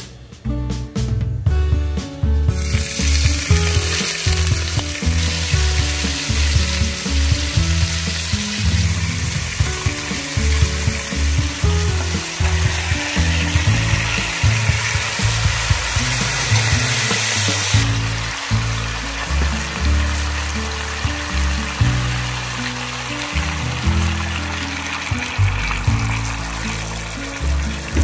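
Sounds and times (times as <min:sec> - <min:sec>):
meat sizzling in hot oil: 0:02.5 - 0:28.0.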